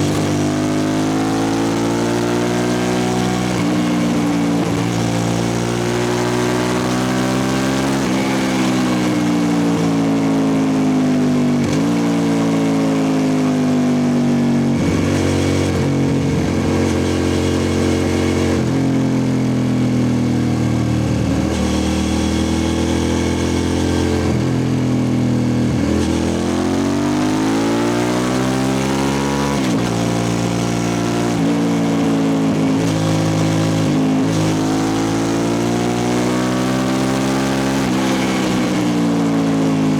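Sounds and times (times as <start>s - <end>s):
loud motorcycle engine revving: 0.0s - 39.9s.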